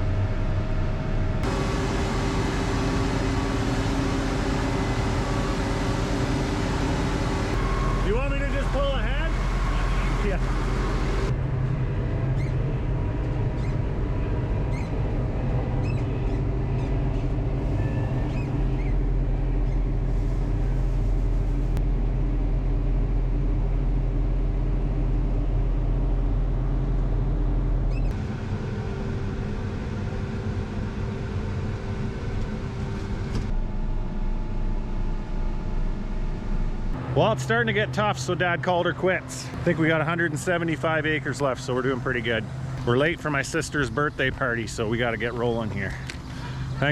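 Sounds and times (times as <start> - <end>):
farm machinery engine humming: 0.0 - 46.9.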